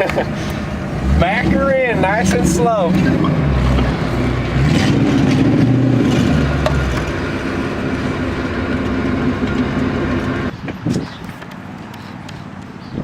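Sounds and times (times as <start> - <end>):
car engine running slowly: 0.0 - 10.5.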